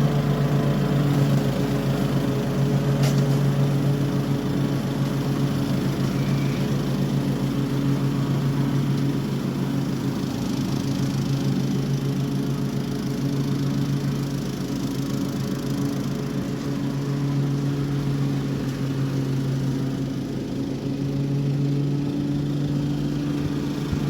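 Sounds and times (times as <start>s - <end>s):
lawn mower mowing grass: 0.0s - 24.0s.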